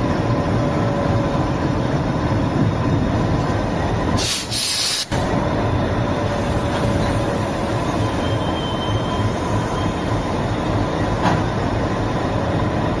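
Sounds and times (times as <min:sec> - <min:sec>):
diesel locomotive idling: 0:00.0 - 0:13.0.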